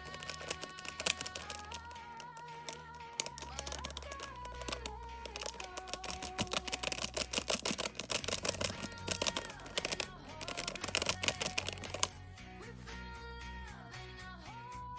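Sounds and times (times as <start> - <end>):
background music with melody: 0.0 - 14.9.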